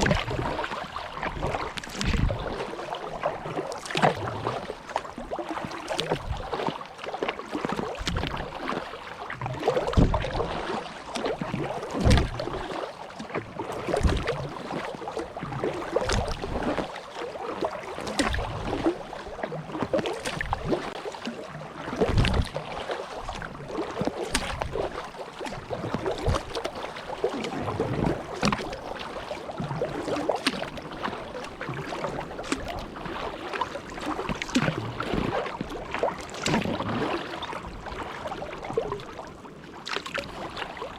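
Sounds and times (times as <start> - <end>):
paddle splashing through water: 0.0 - 40.9.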